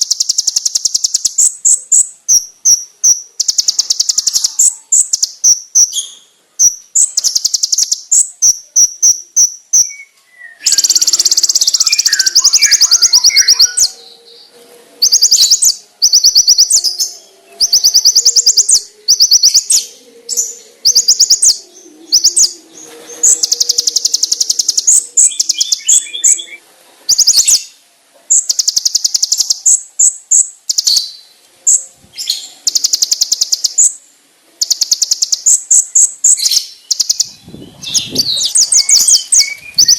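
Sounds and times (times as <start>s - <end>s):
bird singing shrill trills: 0.0s - 27.7s, 28.3s - 34.0s, 34.6s - 39.9s.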